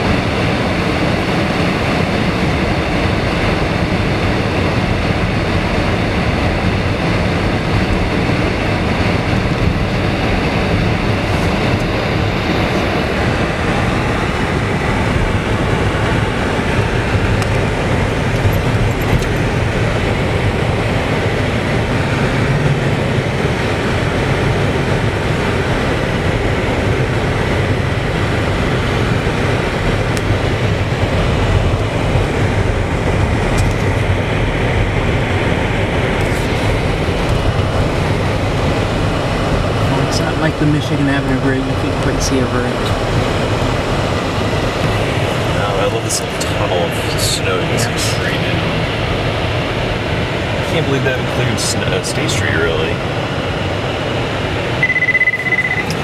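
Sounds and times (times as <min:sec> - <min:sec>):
road and tyre noise inside car: 0:00.0 - 0:56.0.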